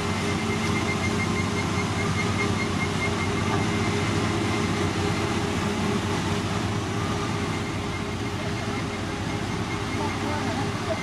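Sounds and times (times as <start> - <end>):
diesel engine of heavy machinery: 0.0 - 11.0.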